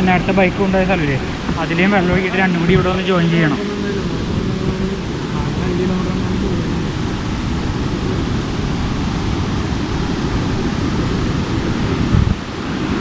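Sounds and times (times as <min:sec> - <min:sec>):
water rushing down small waterfall: 0:00.0 - 0:13.0.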